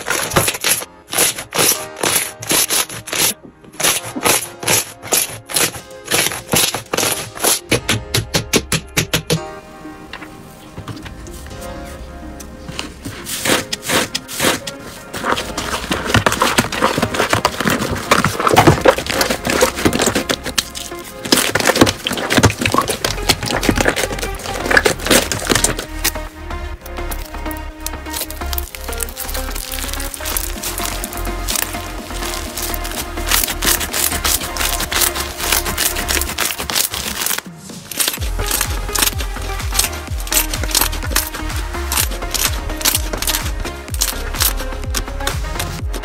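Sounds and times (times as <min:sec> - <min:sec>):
slime squishing: 0:00.0 - 0:07.8, 0:12.7 - 0:46.0
background music: 0:00.0 - 0:46.0.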